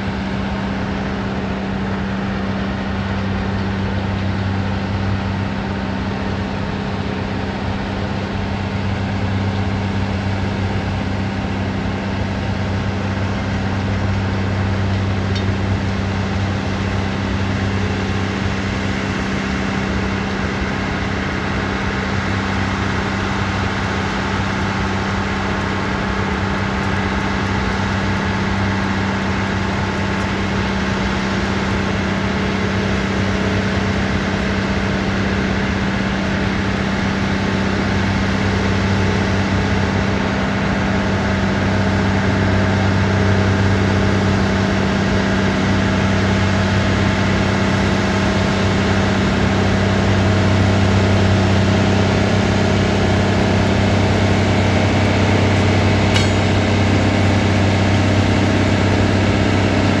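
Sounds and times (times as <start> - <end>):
diesel engines droning: 0.0 - 60.0.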